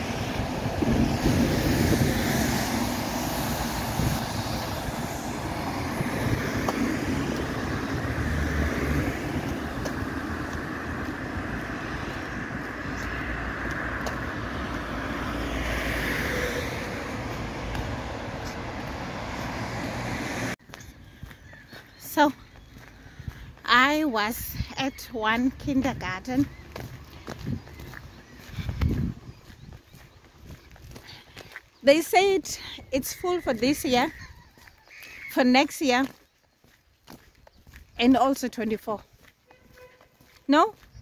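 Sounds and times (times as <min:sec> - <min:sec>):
road traffic: 0:00.0 - 0:41.0.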